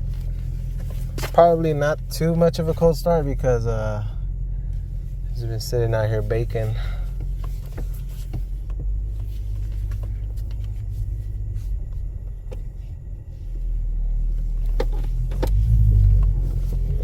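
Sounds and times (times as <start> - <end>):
car engine rumble from inside: 0.0 - 17.0.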